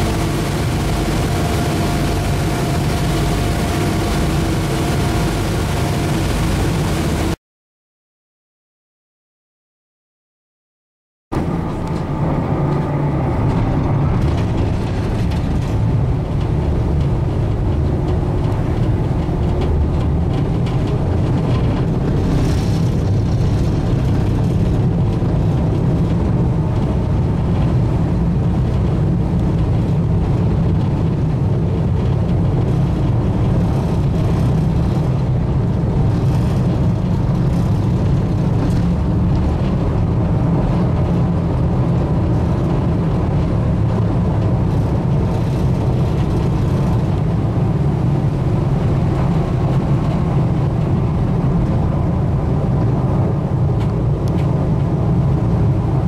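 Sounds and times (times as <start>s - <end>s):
ferry engines droning: 0.0s - 7.4s, 11.3s - 56.0s.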